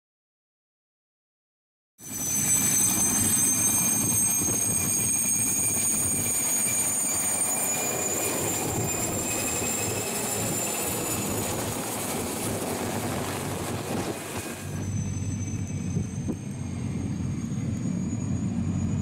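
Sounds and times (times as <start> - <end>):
helicopter engine whine: 2.0 - 19.0
helicopter rotor rushing: 2.0 - 19.0.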